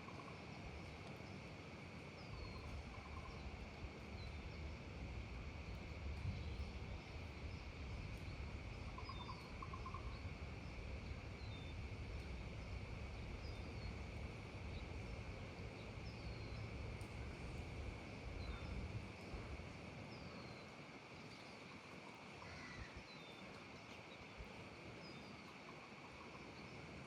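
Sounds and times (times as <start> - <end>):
insect drone: 0.0 - 27.0.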